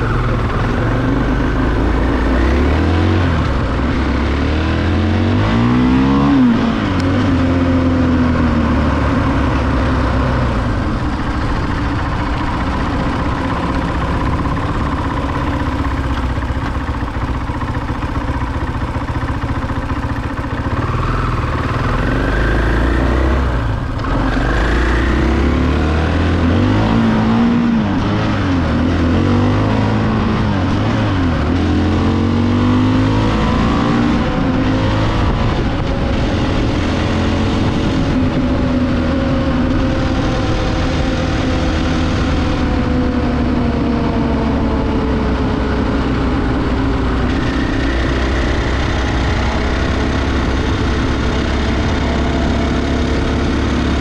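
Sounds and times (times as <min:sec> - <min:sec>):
motorcycle engine revving: 0:00.0 - 0:54.0
road and air noise: 0:00.0 - 0:54.0.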